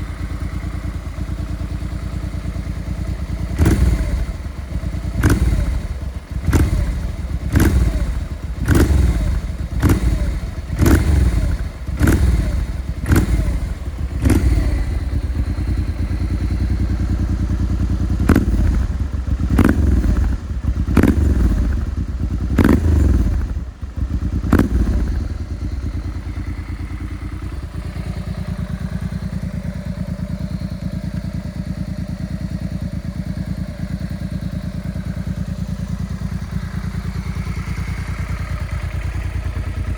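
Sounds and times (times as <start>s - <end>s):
motorcycle engine idling: 0.0s - 39.9s
motorcycle throttle blips: 0.0s - 39.9s.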